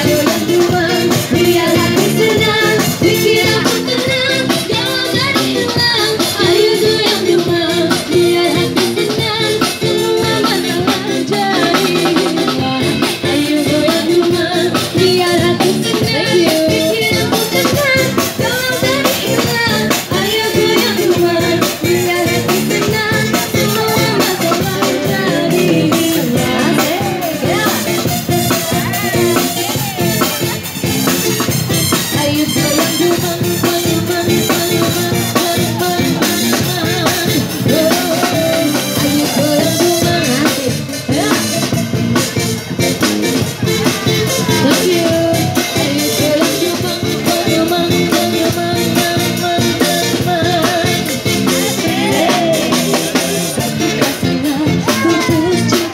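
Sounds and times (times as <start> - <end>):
woman singing through microphone: 0.0 - 30.5, 32.0 - 42.1, 43.6 - 55.9
guitars: 0.0 - 55.9
live band playing: 0.0 - 55.9
steady drum beat: 0.0 - 55.9.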